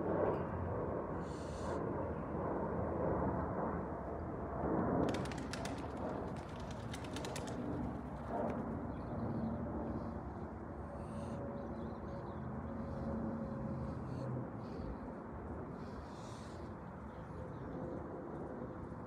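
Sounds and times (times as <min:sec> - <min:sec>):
jet airliner distant rumble: 0:00.0 - 0:19.0.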